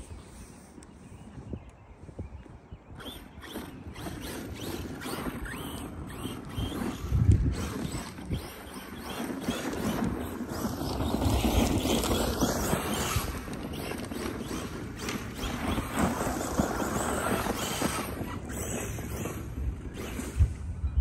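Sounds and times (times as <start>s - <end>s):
rc truck tyres spinning on dirt: 2.9s - 20.8s.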